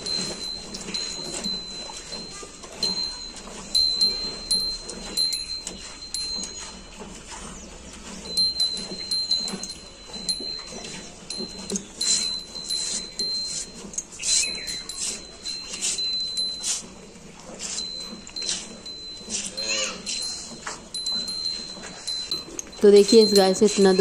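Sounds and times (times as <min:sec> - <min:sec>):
high ringing tone: 0:00.0 - 0:24.0.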